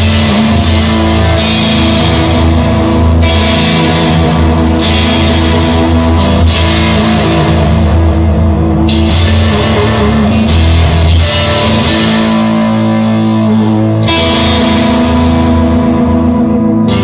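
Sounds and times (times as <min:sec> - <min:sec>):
bass: 0:00.0 - 0:17.0
drum kit: 0:00.0 - 0:17.0
guitar: 0:00.0 - 0:17.0.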